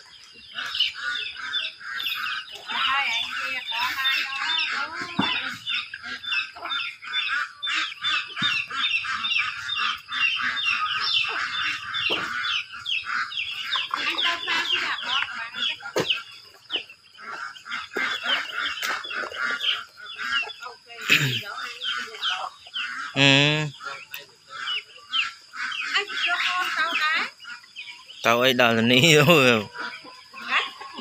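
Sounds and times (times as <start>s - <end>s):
poultry calling: 0.0s - 31.0s.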